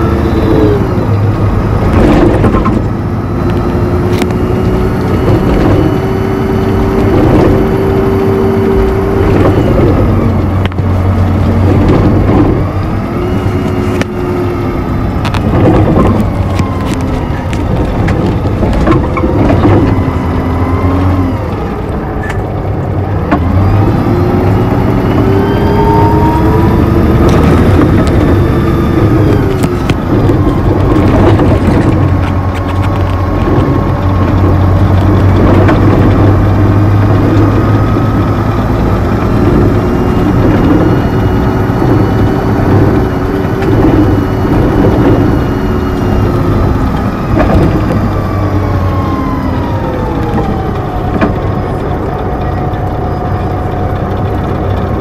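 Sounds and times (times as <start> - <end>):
bus gearbox whine: 0.0 - 55.0
diesel engine drone: 0.0 - 55.0.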